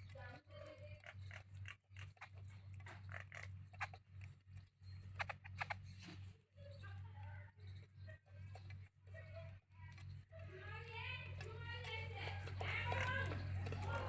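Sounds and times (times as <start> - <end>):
low steady hum: 0.0 - 14.0
small birds calling and clicking: 0.0 - 14.0.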